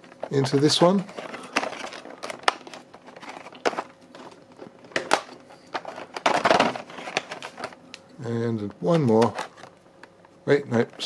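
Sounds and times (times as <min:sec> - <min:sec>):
plastic tray and box crinkling: 0:00.0 - 0:11.0.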